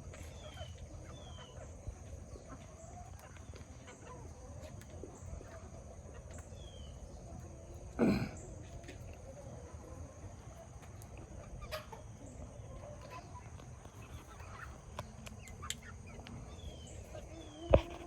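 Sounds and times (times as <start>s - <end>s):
chickens clucking softly: 0.0s - 18.0s.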